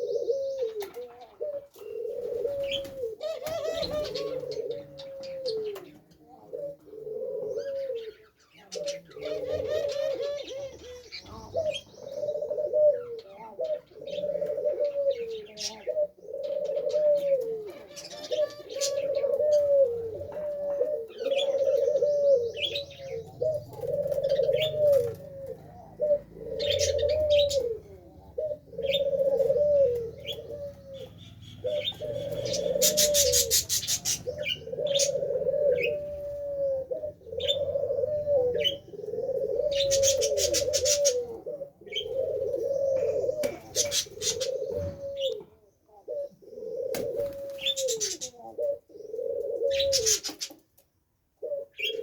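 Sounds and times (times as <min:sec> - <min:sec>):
pigeons cooing: 0:00.0 - 0:52.0
small birds chirping: 0:00.0 - 0:52.0.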